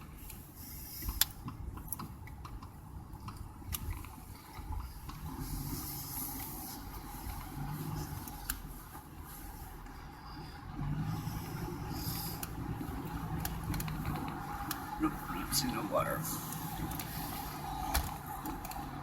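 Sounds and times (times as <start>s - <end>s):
road and engine noise in car: 0.0s - 19.0s.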